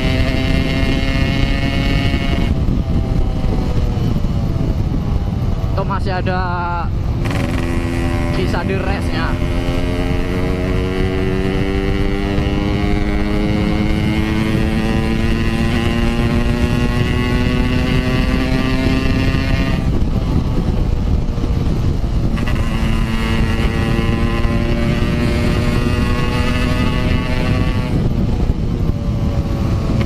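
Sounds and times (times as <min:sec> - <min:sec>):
motorcycle engine revving: 0:00.0 - 0:30.0
wind rush on helmet camera: 0:00.0 - 0:30.0.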